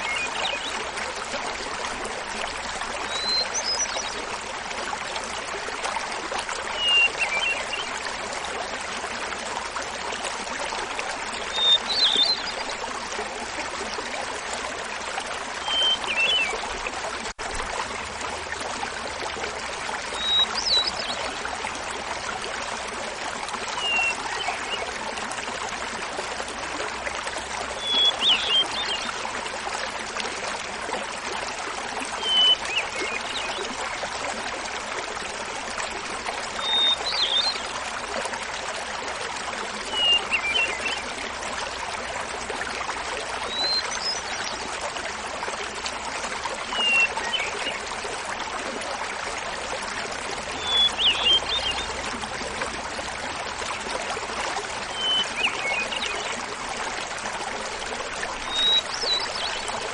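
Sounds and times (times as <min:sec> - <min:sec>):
small waterfall babbling: 0:00.0 - 0:59.9.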